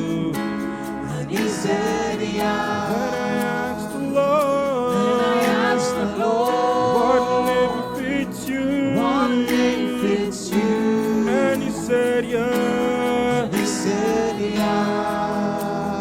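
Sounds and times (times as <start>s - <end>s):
gospel choir singing: 0.0s - 16.0s.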